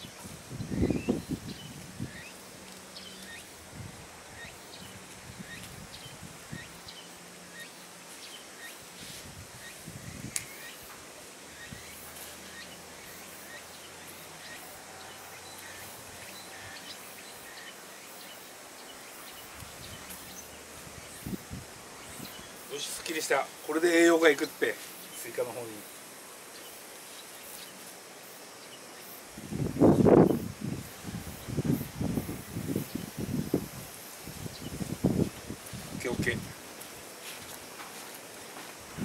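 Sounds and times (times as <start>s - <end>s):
rustling of vines: 0.0s - 39.0s.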